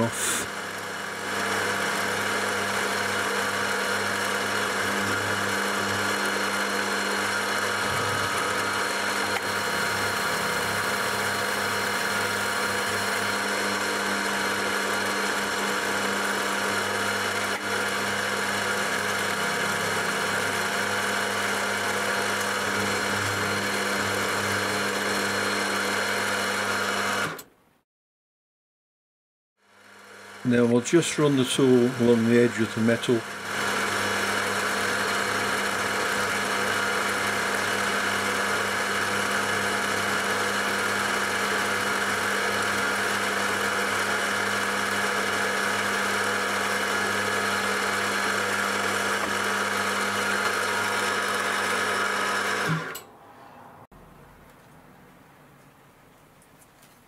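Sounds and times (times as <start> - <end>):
milling machine cutting steel: 0.0 - 27.5, 30.4 - 53.1.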